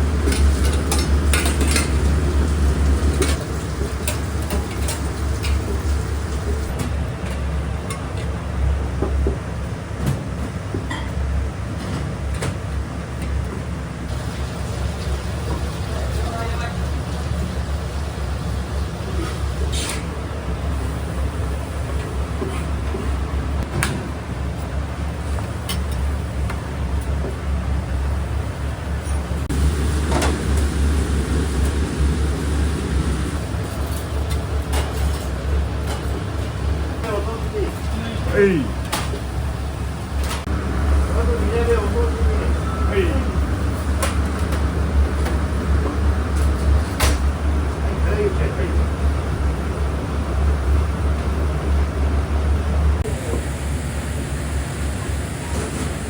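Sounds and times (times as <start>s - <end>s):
kitchen low hum: 0.0s - 9.5s, 13.3s - 56.0s.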